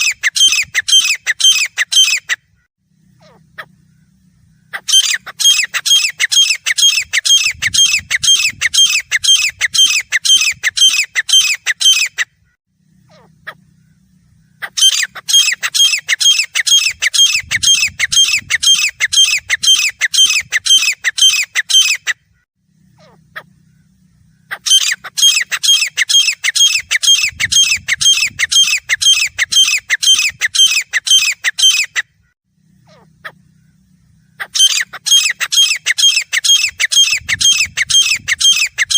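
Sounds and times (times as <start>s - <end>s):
bird shrill calls: 0.0s - 38.9s.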